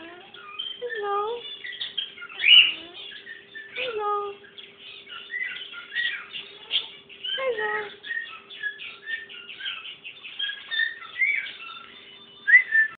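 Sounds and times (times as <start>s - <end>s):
parrot chirping and whistling: 0.2s - 13.0s.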